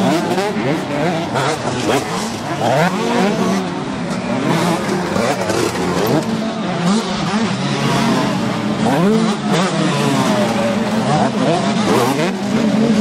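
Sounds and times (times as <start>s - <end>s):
motocross bikes racing: 0.0s - 13.0s.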